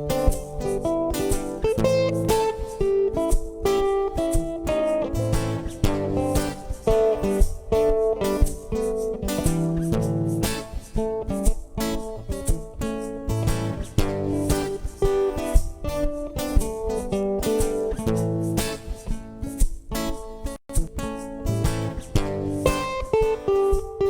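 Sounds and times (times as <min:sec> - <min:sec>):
guitar playing: 0:00.0 - 0:24.0.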